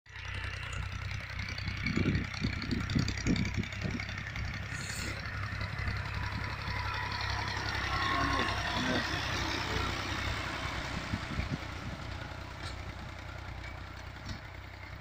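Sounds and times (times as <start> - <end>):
tractor diesel engine running: 0.1 - 15.0
uneven low bumps: 0.5 - 7.9, 8.6 - 15.0.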